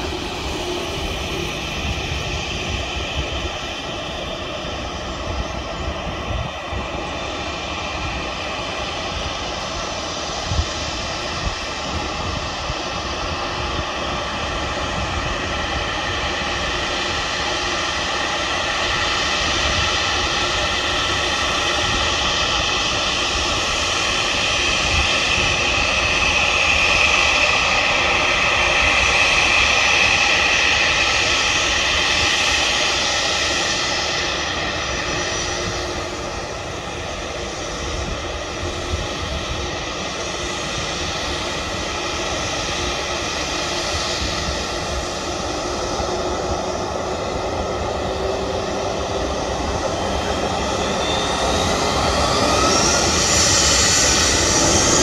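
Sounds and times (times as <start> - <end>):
airliner engines whining: 0.0 - 55.0.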